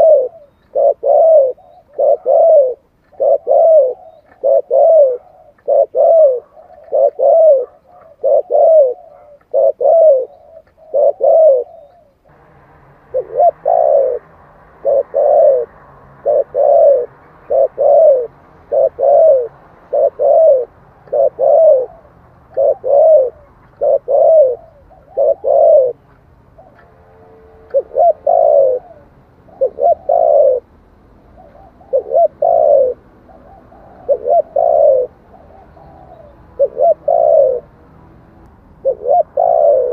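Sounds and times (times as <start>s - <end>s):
dove cooing: 0.0s - 12.3s, 13.0s - 30.7s, 31.3s - 37.8s, 38.8s - 39.9s.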